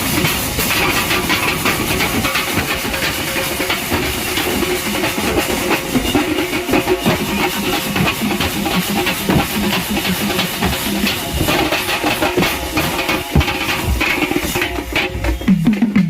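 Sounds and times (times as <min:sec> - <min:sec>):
hissing wash: 0:00.0 - 0:15.4
fast hand percussion strikes: 0:00.0 - 0:16.0.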